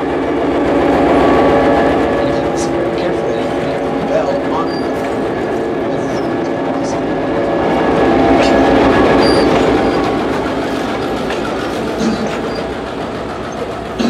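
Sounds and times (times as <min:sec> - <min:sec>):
train wheels clacking on rails: 0:00.0 - 0:14.0.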